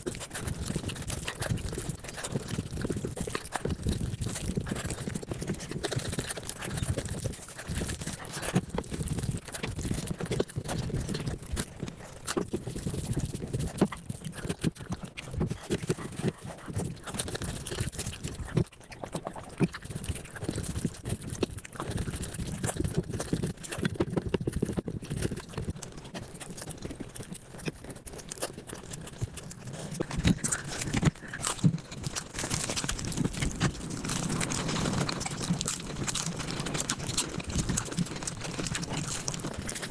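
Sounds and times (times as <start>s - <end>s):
rapid chewing and smacking: 0.0s - 39.9s
wet mouth clicks: 0.0s - 39.9s.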